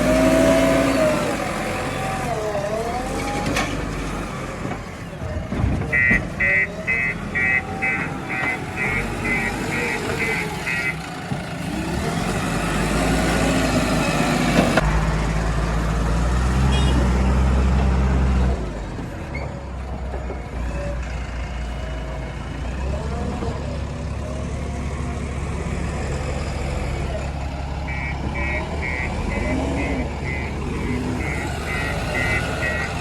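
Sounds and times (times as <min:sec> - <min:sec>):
heavy diesel machinery engine: 0:00.0 - 0:33.0.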